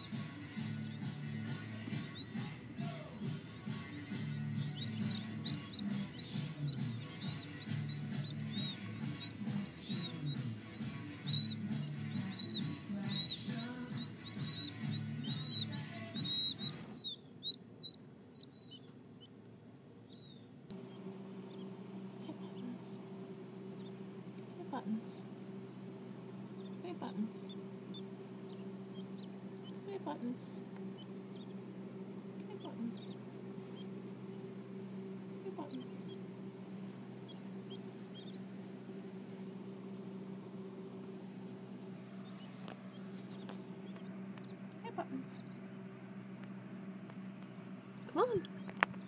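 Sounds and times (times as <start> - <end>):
chicks peeping: 0.0 - 49.0
steady low hum: 0.0 - 49.0.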